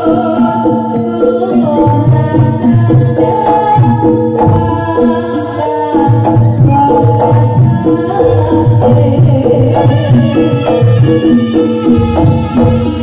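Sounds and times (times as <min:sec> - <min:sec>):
hand drums beating: 0:00.0 - 0:13.0.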